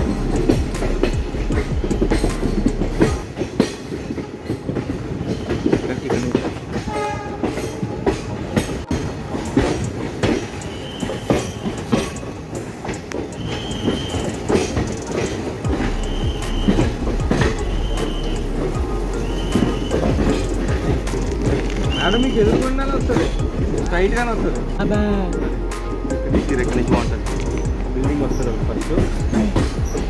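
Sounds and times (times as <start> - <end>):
high wheel squeals: 0.0 - 3.4, 4.4 - 30.0
train rumble: 0.0 - 30.0
wheels clacking over rail joints: 0.0 - 30.0.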